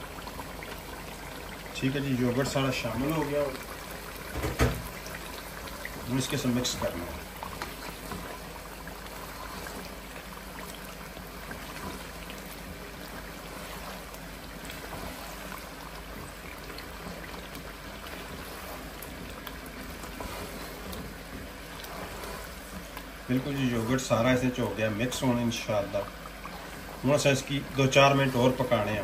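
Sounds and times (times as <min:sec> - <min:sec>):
masala sizzling and bubbling: 0:00.0 - 0:29.0.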